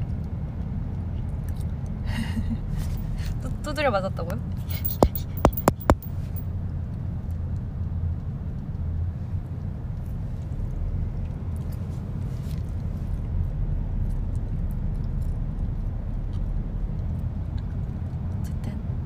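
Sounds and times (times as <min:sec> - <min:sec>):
car cabin engine and road rumble: 0:02.4 - 0:19.0.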